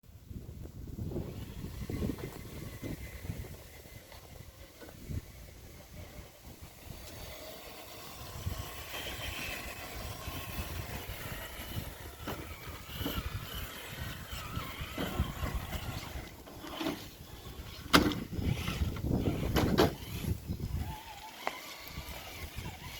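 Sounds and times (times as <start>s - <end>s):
toy car motor whine: 0.4s - 22.9s.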